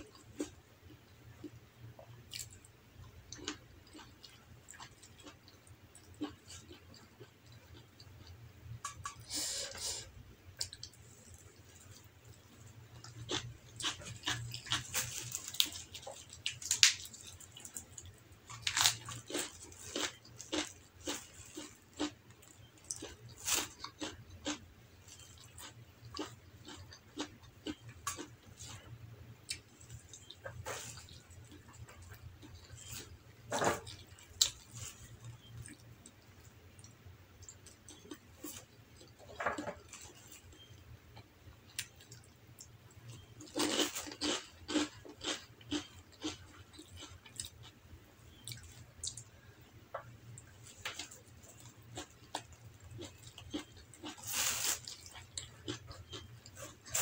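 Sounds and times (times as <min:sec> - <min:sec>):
person chewing rice: 0:00.0 - 0:01.6, 0:02.2 - 0:57.0.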